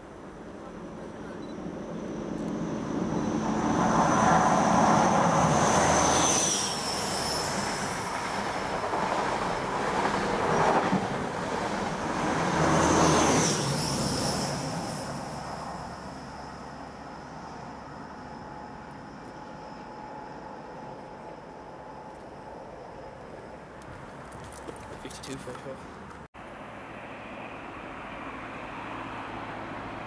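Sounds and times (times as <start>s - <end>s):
diesel train engine whine: 0.0s - 25.0s
train wheels rumbling on rails: 1.3s - 26.2s.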